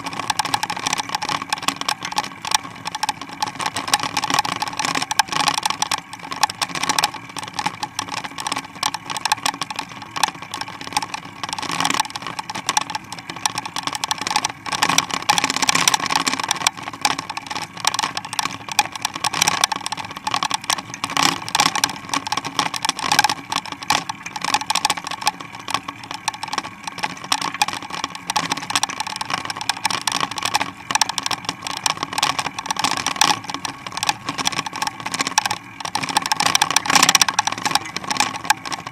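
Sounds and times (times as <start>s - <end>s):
bicycle rattling and clicking: 0.0s - 38.9s.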